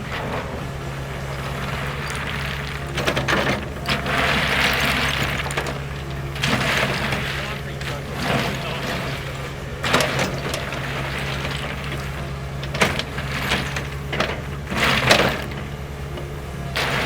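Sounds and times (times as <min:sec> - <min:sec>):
crushed rock scraping and rattling: 0:00.0 - 0:17.0
excavator diesel engine running: 0:00.0 - 0:17.0.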